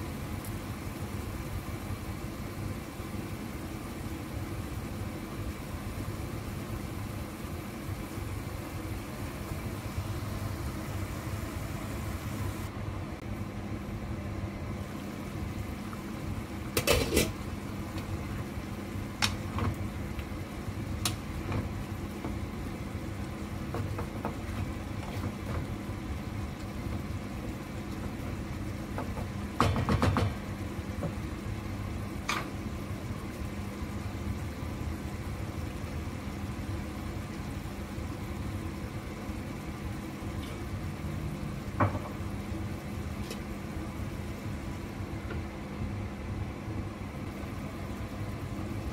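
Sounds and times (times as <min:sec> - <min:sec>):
low kitchen hum: 0:00.0 - 0:48.9.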